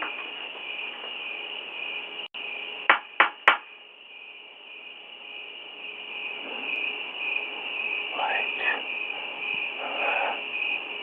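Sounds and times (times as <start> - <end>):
steady high background hiss: 0.0 - 11.0.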